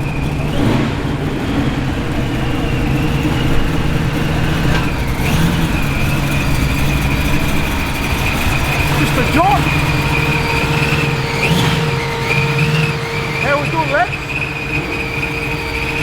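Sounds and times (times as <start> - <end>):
car engines rolling past: 0.0 - 16.0.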